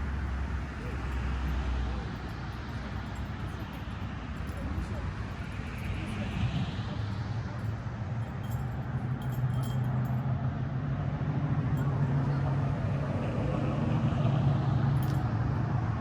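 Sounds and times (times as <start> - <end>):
rushing road noise: 0.0 - 16.0
vehicle engine low hum: 0.0 - 16.0.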